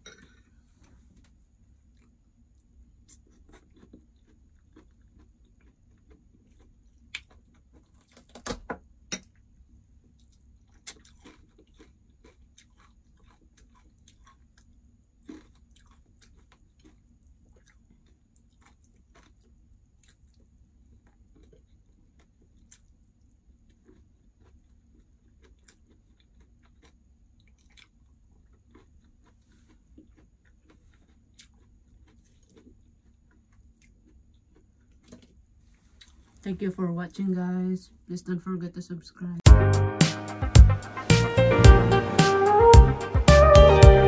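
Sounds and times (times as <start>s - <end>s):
person chewing and crunching: 0.0s - 8.3s, 9.3s - 36.4s.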